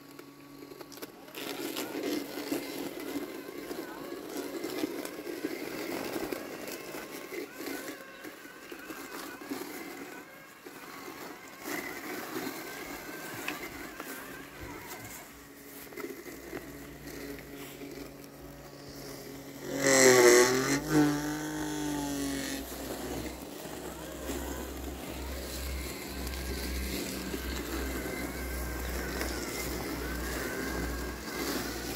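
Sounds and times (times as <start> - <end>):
robot lawn mower motor hum: 0.0 - 31.9.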